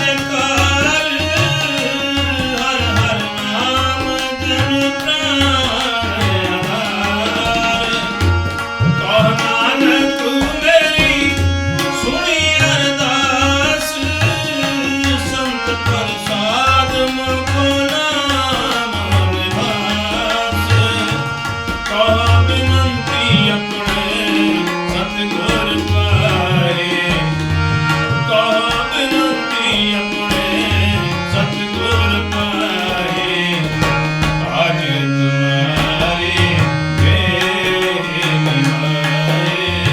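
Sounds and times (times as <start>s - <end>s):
tabla rhythm: 0.0s - 39.9s.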